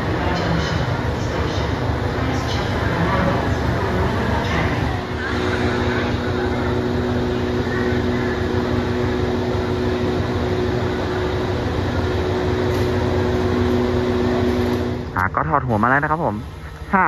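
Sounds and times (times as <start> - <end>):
locomotive engine droning: 0.0 - 17.0.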